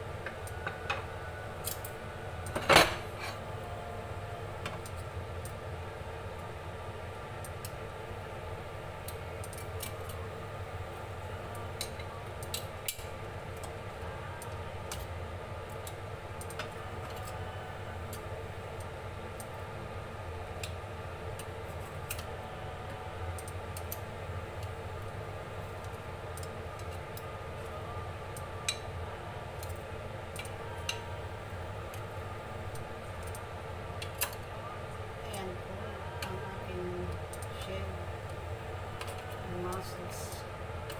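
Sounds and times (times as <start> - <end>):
steady hum and hiss: 0.0 - 40.9.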